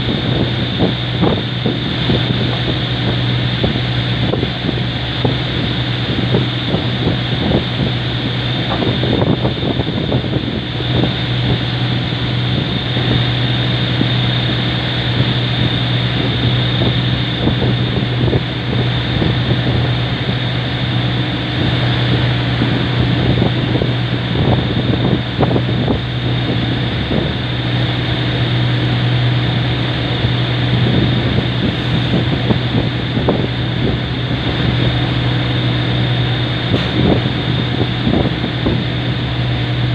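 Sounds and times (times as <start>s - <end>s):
boat engine droning: 0.0s - 39.9s
thin constant whine: 0.0s - 39.9s
wind buffeting microphone: 0.0s - 39.9s.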